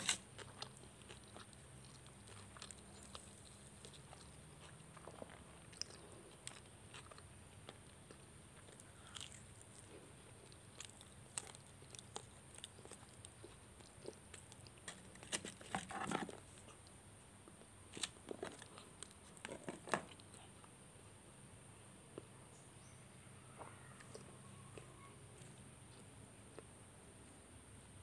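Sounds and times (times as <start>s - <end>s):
crunchy chicken being chewed: 0.0s - 20.7s, 23.4s - 26.7s.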